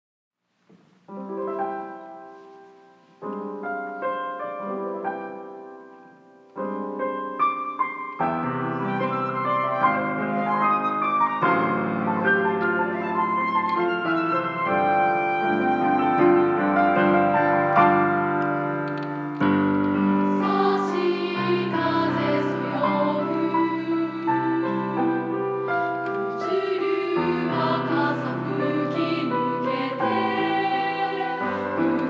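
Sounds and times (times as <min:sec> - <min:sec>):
piano through speakers: 0:00.4 - 0:32.0.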